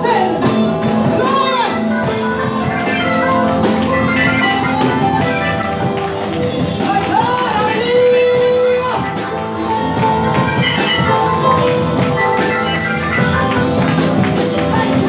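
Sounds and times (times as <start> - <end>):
drums and percussion beat: 0.0 - 15.0
electronic keyboard: 0.0 - 15.0
person singing: 0.0 - 15.0.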